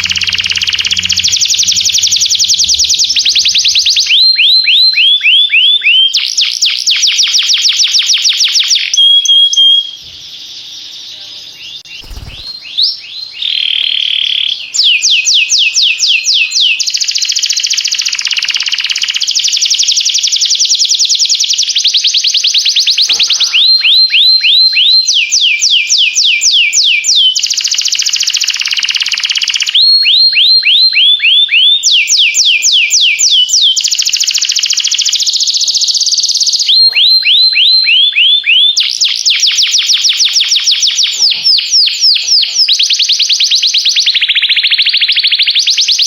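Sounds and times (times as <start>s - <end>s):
canary singing trills: 0.0s - 19.4s, 21.3s - 46.0s.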